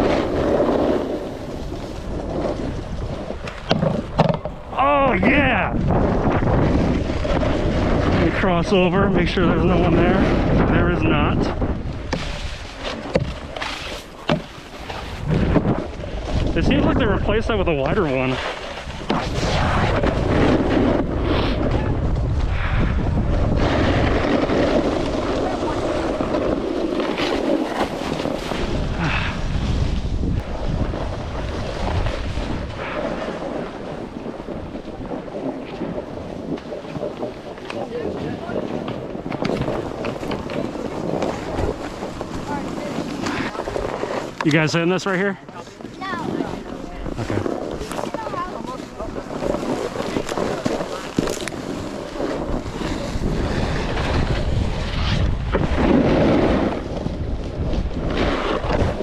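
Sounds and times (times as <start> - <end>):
snowboard scraping across snow: 0.0 - 59.0
wind buffeting microphone: 0.0 - 59.0.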